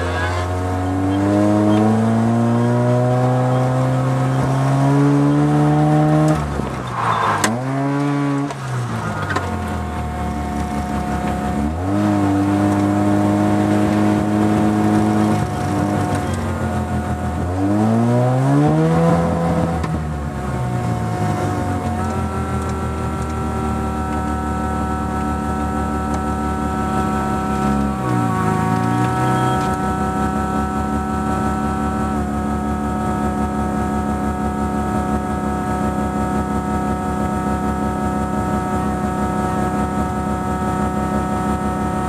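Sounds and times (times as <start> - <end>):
rotary engine revving: 0.0 - 35.3.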